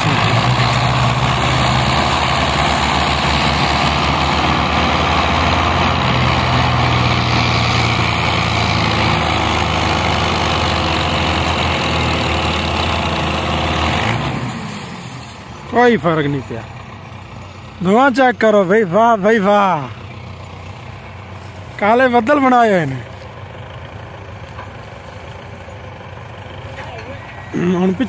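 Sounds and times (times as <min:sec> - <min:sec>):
diesel tractor engines straining: 0:00.0 - 0:28.0.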